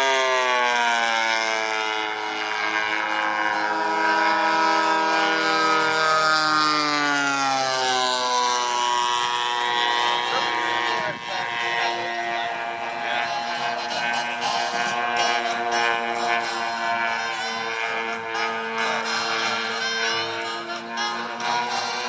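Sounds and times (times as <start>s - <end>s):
model plane engine drone: 0.0s - 22.0s.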